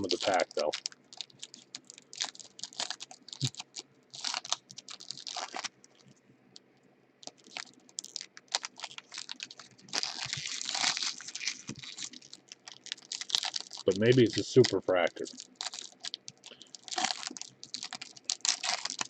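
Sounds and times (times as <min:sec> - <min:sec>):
cards and packs rustling: 0:00.0 - 0:06.7, 0:07.3 - 0:19.0.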